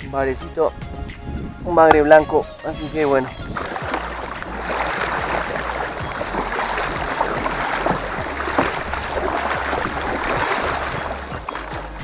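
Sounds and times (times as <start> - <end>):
water rushing along kayak hull: 1.6 - 12.0
paddle splashes: 1.7 - 12.0.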